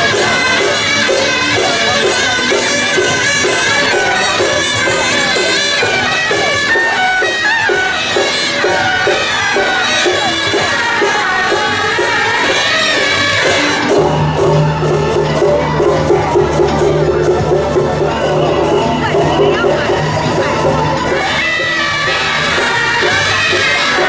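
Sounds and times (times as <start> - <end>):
drums and gongs beating: 0.0 - 24.0
shrill reed horn melody: 0.0 - 24.0.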